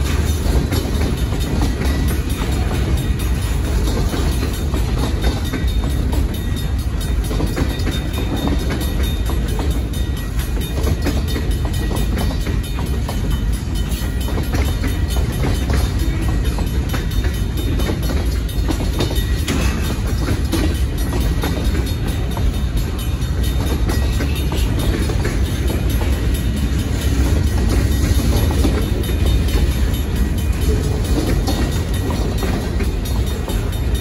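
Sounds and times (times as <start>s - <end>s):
train wheels rumbling on rails: 0.0s - 34.0s
wheels clicking over rail joints: 0.0s - 34.0s.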